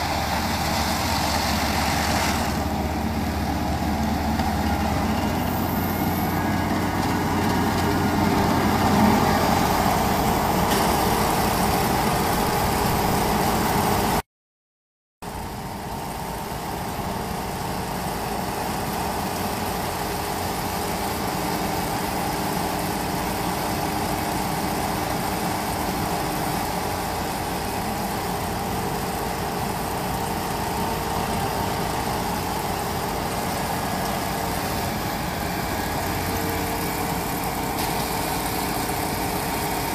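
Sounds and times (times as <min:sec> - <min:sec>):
diesel engine running: 0:00.0 - 0:14.2, 0:15.3 - 0:39.9.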